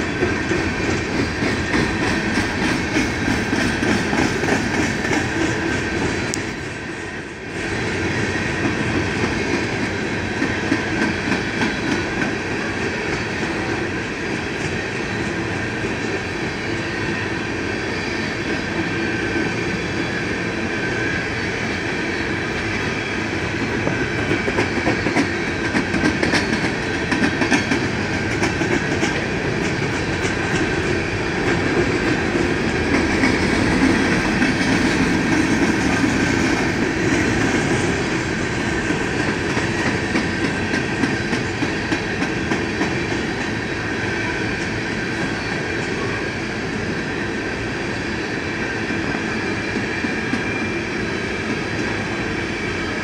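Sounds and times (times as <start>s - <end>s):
train wheels clattering over rails: 0.0s - 53.0s.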